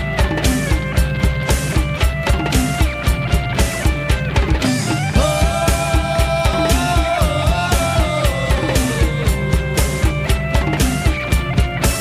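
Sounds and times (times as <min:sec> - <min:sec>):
rock music with steady beat: 0:00.0 - 0:12.0.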